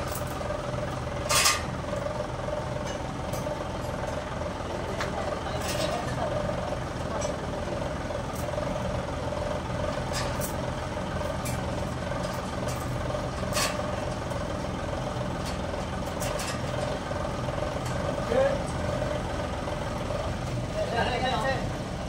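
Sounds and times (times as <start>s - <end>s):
sawmill machinery hum and whine: 0.0s - 22.0s.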